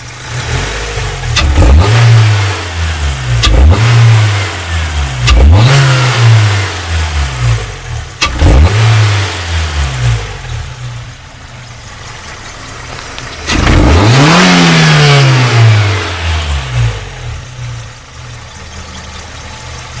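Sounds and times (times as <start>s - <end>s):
car engine idling: 0.0s - 20.0s
car engine revving: 0.0s - 20.0s.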